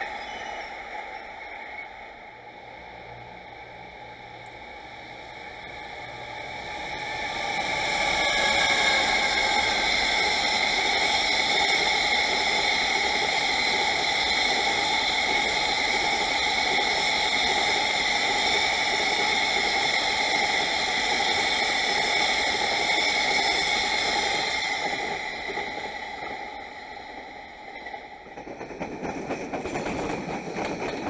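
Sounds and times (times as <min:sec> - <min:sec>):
train wheels rushing on rails: 0:00.0 - 0:31.0.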